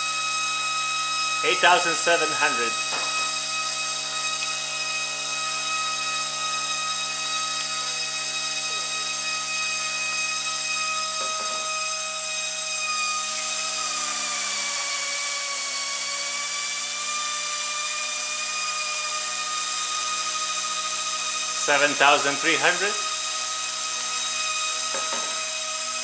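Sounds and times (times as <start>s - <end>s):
rc helicopter motor whining: 0.0s - 26.0s.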